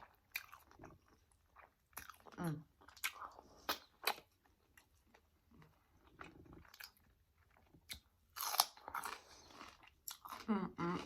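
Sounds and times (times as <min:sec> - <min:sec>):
chewing and biting: 0:00.0 - 0:11.0.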